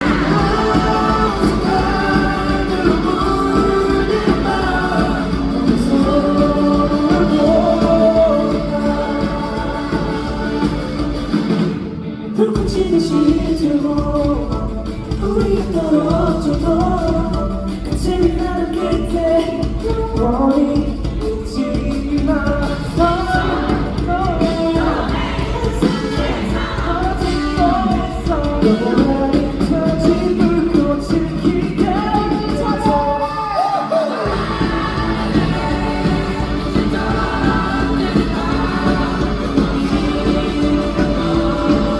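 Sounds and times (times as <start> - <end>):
live rock band music: 0.0 - 41.9
person singing: 0.0 - 41.9.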